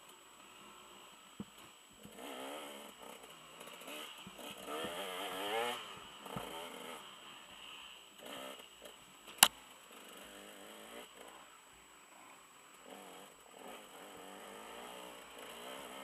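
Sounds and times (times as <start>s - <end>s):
muffled dirt bike engine revving: 0.0s - 16.0s.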